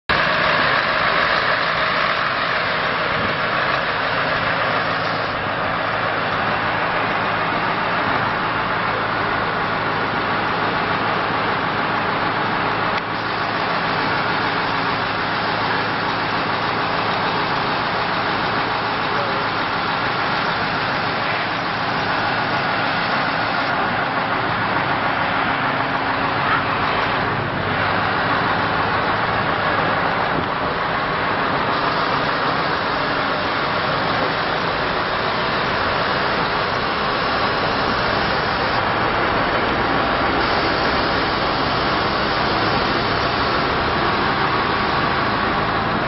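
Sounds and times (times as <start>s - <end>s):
diesel engine droning: 0.0s - 46.0s
street noise: 0.0s - 46.0s.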